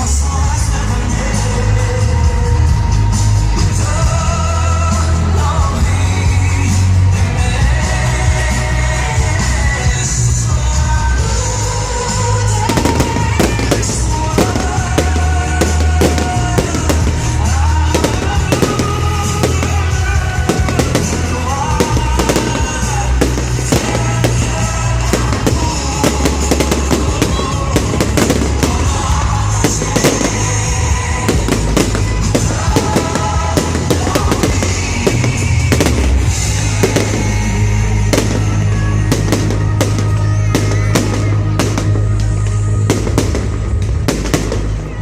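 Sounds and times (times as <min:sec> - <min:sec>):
fireworks bursting and crackling: 0:00.0 - 0:45.0
loud music with heavy bass: 0:00.0 - 0:45.0.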